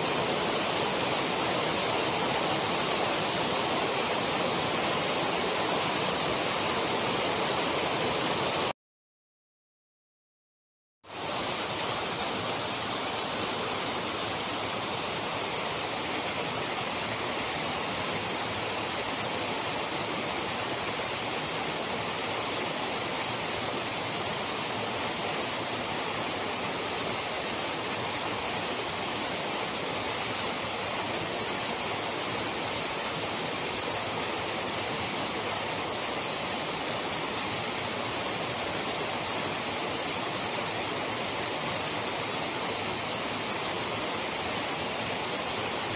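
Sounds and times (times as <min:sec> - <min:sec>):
waterfall rushing: 0:00.0 - 0:08.7, 0:11.1 - 0:45.9.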